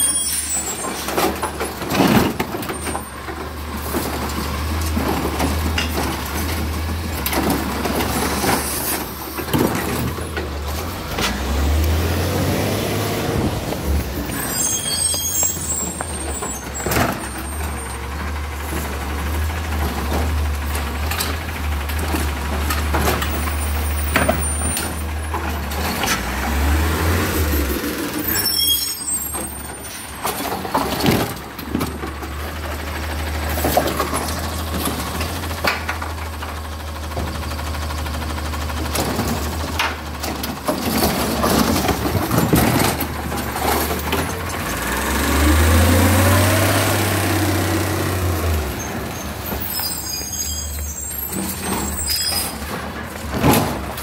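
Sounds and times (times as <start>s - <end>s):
knocks and clatter of cart: 0.0s - 54.0s
garbage truck engine revving: 0.3s - 54.0s.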